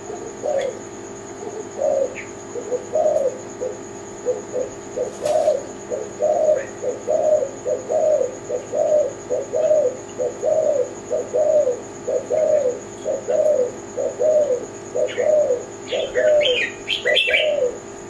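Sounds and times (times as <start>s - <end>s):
faint bird chirp: 0.0s - 0.8s, 1.4s - 17.9s
dove cooing: 0.0s - 18.0s.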